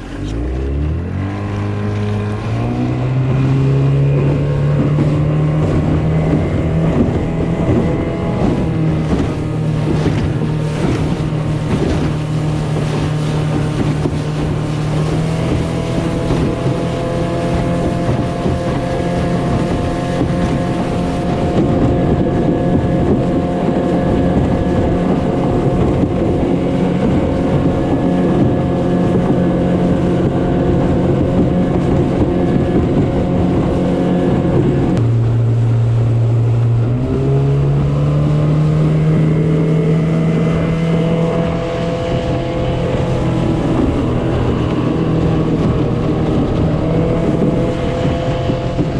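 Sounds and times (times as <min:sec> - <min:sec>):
outboard motor running: 0:00.0 - 0:48.9.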